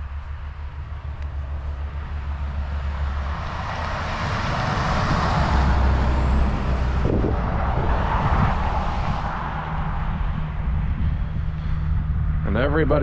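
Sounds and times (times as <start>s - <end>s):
low engine drone: 0.0s - 13.0s
tyre and wind noise: 0.0s - 13.0s.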